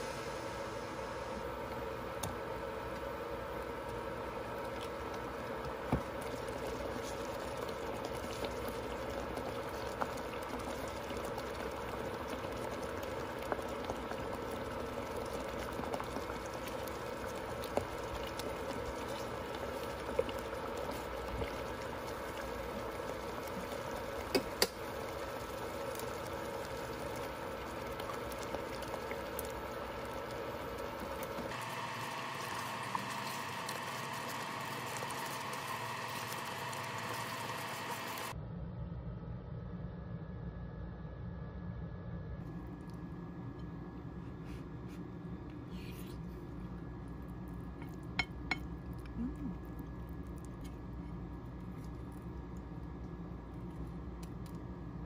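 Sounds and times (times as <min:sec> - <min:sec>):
liquid boiling: 0:00.0 - 0:38.4, 0:42.4 - 0:55.0.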